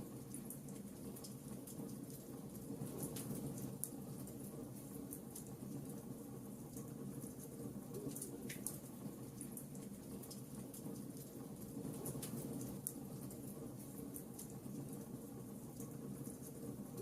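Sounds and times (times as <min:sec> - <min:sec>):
wood fire crackling: 0:00.2 - 0:17.0.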